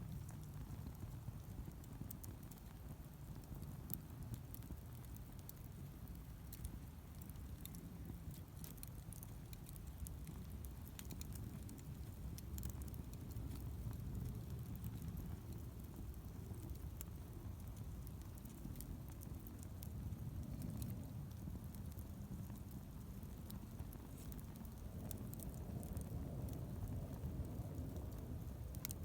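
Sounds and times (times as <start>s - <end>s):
campfire crackling and popping: 0.0s - 29.0s
low steady rumble: 0.0s - 29.0s.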